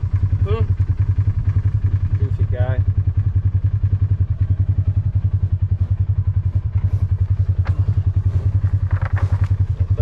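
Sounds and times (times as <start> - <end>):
utility vehicle engine idling: 0.0 - 10.0.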